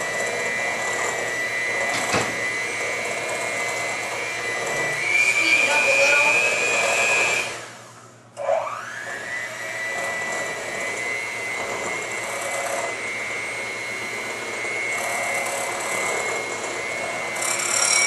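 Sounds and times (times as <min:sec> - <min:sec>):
electric hand mixer whining: 0:00.0 - 0:18.0.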